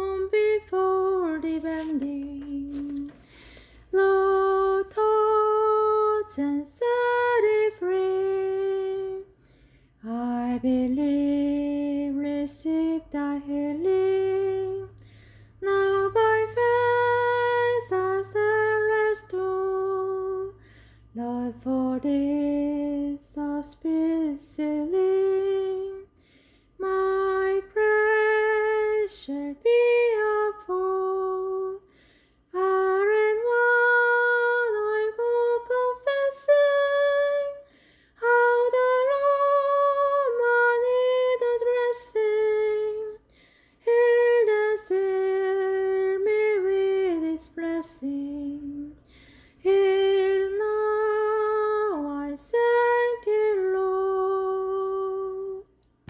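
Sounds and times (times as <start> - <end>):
woman singing a hymn: 0.0 - 55.9.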